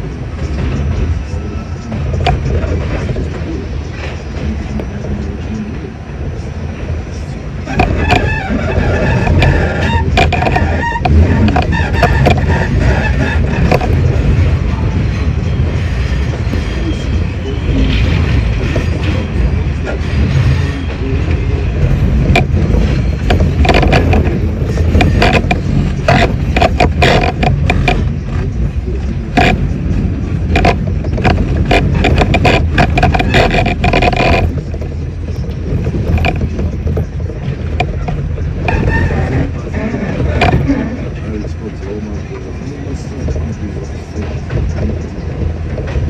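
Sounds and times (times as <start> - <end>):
wheels clattering over rails: 0.0 - 5.9, 7.6 - 46.0
subway train rumbling: 0.0 - 46.0.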